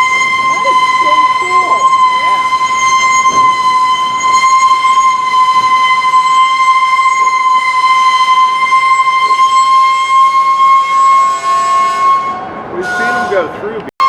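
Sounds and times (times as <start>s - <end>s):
train wheels squealing on rails: 0.0s - 13.8s.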